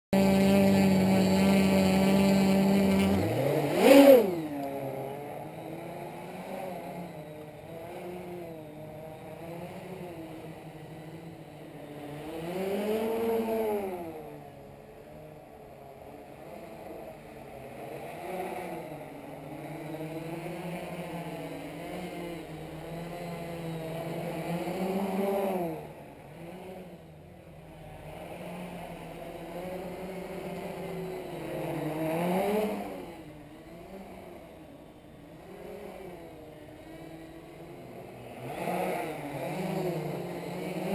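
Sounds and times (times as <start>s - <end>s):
quadcopter propellers buzzing: 0.2s - 40.9s.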